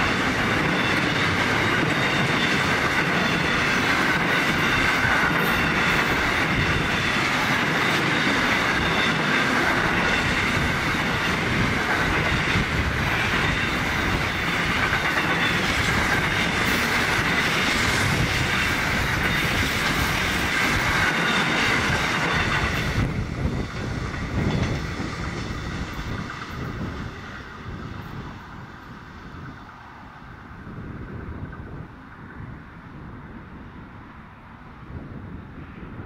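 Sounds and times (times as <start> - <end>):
train wheels clattering over rail joints: 0.0 - 29.6.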